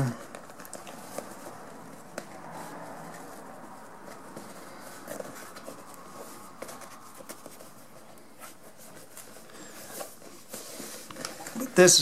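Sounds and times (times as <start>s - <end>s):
vinyl seat cover rustling: 0.0s - 12.0s.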